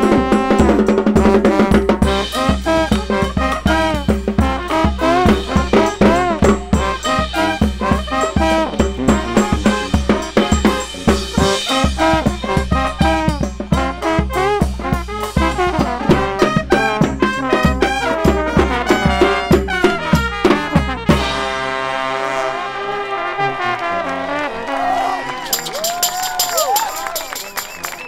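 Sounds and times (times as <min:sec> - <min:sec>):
driving drum beat: 0:00.0 - 0:21.8, 0:25.5 - 0:28.0
brass band playing: 0:00.0 - 0:28.0.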